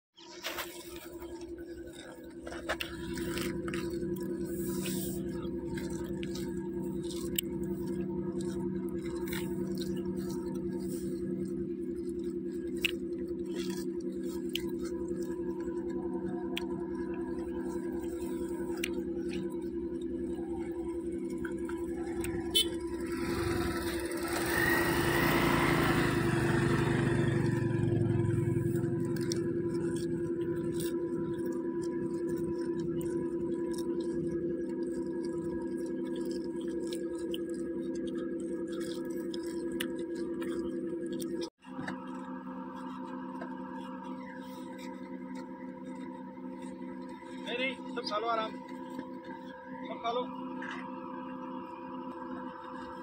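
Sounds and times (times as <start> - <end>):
vehicle engine running: 0.0 - 53.0
monkeys chewing cabbage leaves: 0.2 - 53.0
road noise: 0.2 - 53.0
steady low hum: 0.2 - 53.0.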